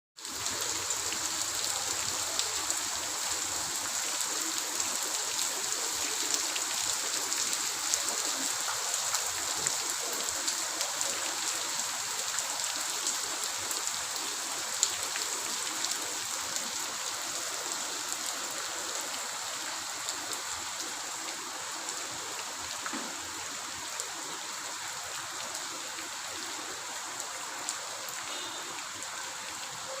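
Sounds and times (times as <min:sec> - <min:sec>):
heavy rain falling: 0:00.2 - 0:30.0.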